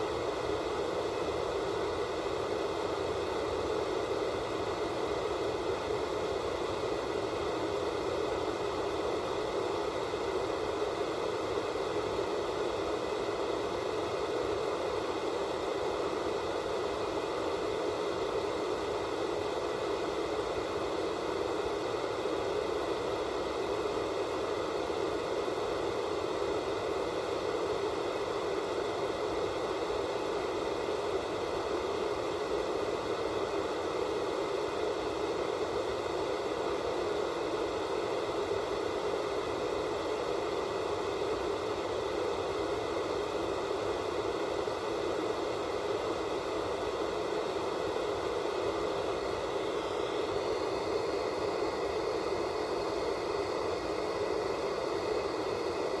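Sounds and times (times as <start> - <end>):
television static hiss: 0.0 - 56.0.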